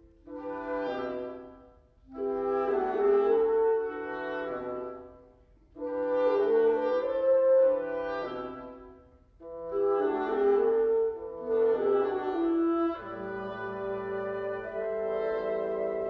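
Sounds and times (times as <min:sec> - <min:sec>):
woodwind quintet playing: 0:00.0 - 0:16.0.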